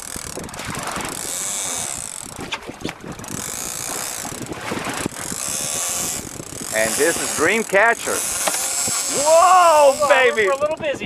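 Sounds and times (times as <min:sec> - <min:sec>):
fishing reel clicking: 0:00.0 - 0:02.4, 0:03.2 - 0:11.0
hissy rasping of reel line: 0:01.1 - 0:02.5, 0:03.2 - 0:10.8.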